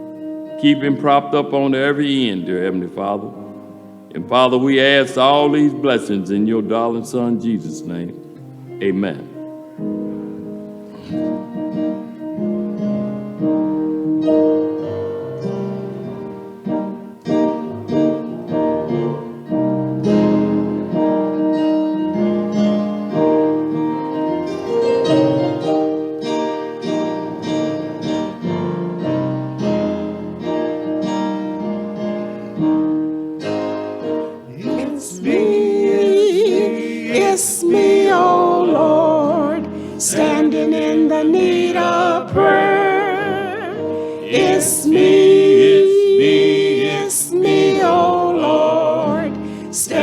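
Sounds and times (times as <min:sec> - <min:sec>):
piano playing hymn chords: 0:00.0 - 0:50.0.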